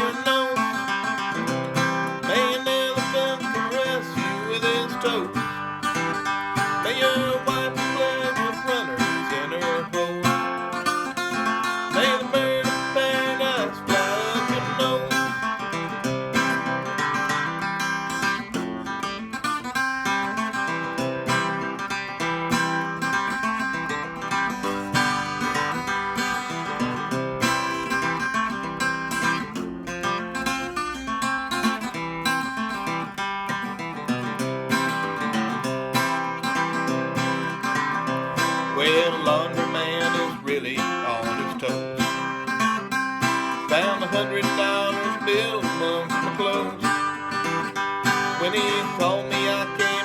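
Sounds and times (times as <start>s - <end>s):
acoustic guitar playing: 0.0s - 50.0s.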